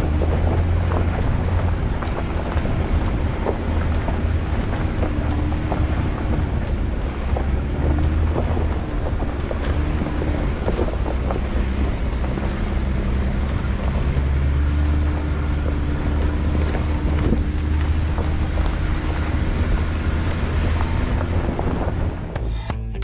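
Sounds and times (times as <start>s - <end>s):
stones crunching under tyres: 0.0s - 22.2s
wind buffeting microphone: 0.0s - 22.4s
car engine running low: 0.0s - 22.7s.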